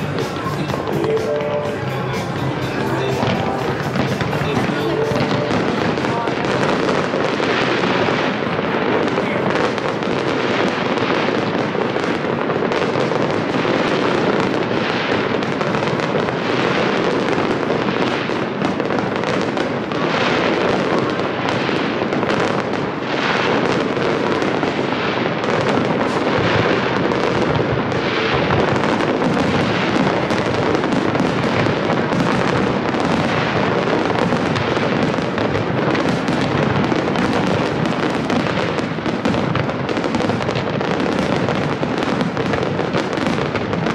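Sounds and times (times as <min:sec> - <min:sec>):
fireworks bangs and crackle: 0:00.0 - 0:43.9.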